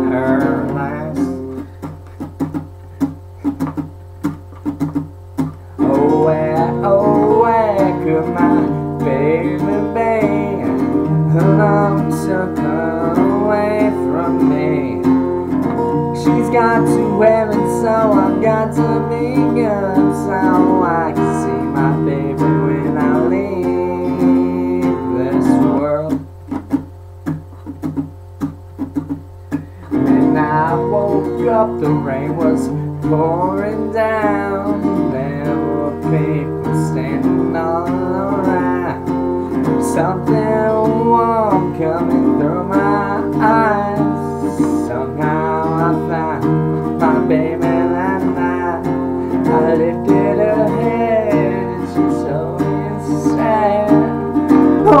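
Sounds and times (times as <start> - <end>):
man singing: 0.0 - 2.5, 5.8 - 26.3, 29.6 - 55.0
acoustic guitar strumming: 0.0 - 55.0.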